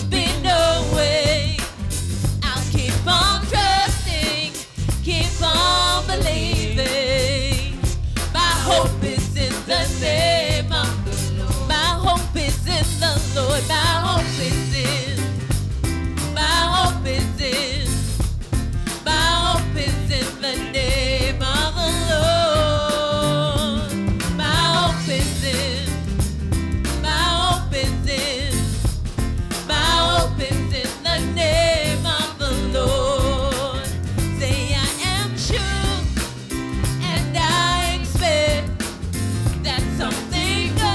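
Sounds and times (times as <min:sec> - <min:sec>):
woman singing into a microphone: 0:00.0 - 0:01.8, 0:02.4 - 0:15.3, 0:16.3 - 0:18.0, 0:19.0 - 0:26.0, 0:27.0 - 0:28.6, 0:29.7 - 0:36.3, 0:37.0 - 0:38.9, 0:39.5 - 0:40.9
instrumental accompaniment with drums: 0:00.0 - 0:40.9.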